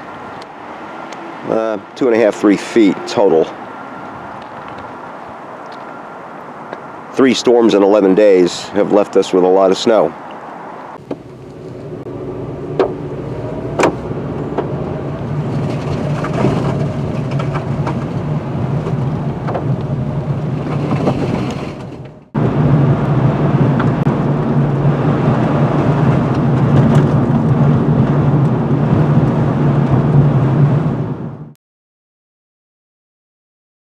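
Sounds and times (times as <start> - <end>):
car engine and road hum: 0.0 - 31.6.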